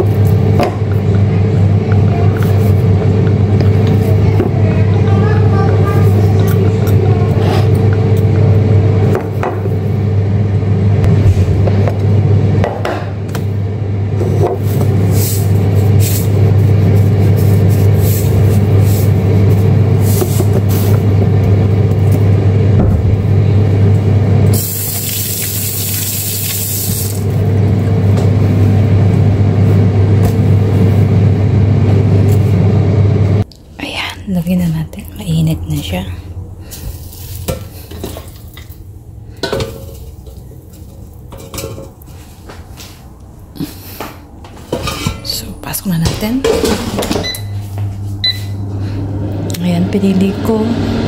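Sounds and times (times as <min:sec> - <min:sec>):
air fryer fan humming: 0:00.0 - 0:51.0.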